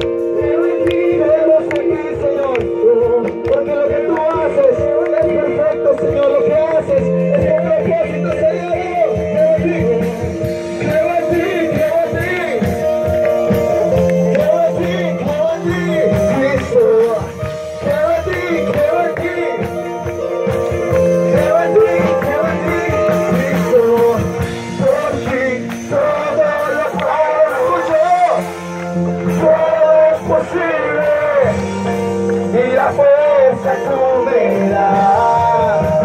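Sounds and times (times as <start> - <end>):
singing melody: 0.0 - 36.0
worship band music: 0.0 - 36.0.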